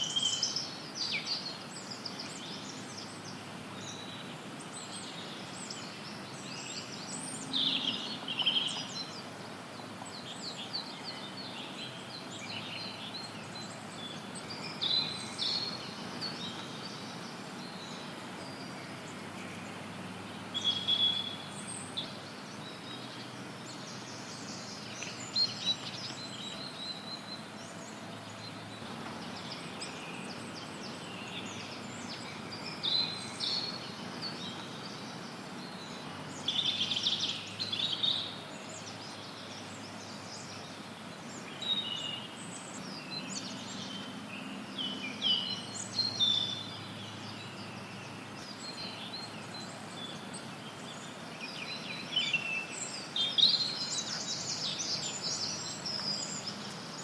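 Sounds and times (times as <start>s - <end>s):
songbirds chirping: 0.0s - 57.0s
white noise hiss: 0.0s - 57.0s.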